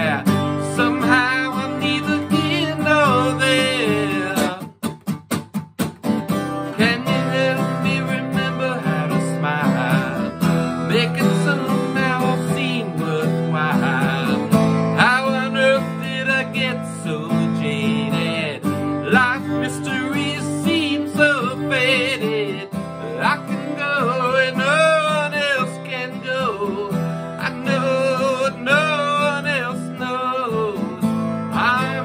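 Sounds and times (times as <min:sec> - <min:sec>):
man singing: 0:00.0 - 0:04.8, 0:06.4 - 0:32.0
acoustic guitar strumming: 0:00.0 - 0:32.0.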